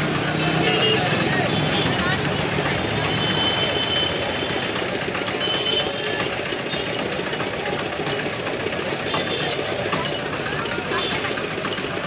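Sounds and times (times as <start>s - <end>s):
busy street market din: 0.0s - 12.0s
small engine running: 1.5s - 12.0s.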